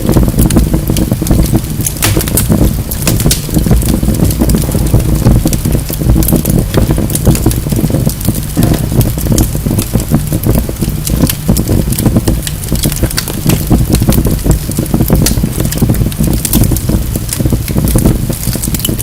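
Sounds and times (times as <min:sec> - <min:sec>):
fire rumbling: 0:00.0 - 0:19.0
logs crackling and popping: 0:00.0 - 0:19.0.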